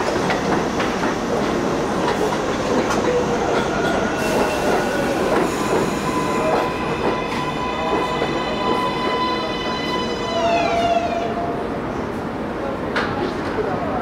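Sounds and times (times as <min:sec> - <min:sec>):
high train whine: 0:00.0 - 0:14.0
train wheels rumbling on rail: 0:00.0 - 0:14.0.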